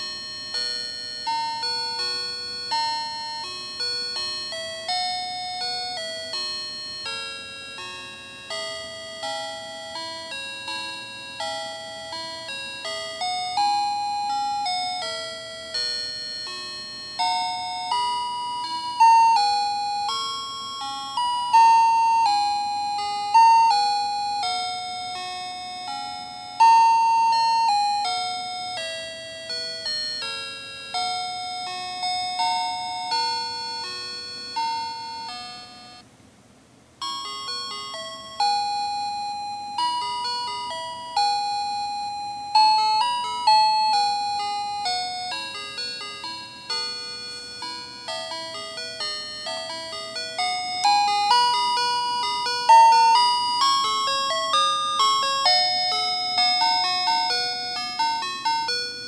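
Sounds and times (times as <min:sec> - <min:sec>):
electronic chime melody: 0:00.0 - 0:36.0, 0:37.0 - 0:59.0.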